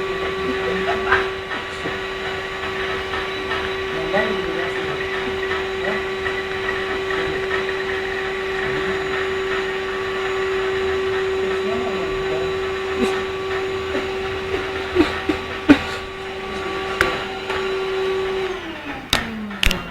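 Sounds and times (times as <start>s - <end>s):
vacuum cleaner motor whine: 0.0s - 19.9s.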